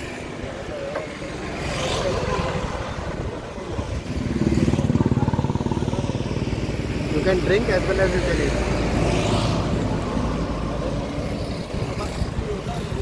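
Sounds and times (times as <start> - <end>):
small vehicle engine running: 1.6 - 13.0.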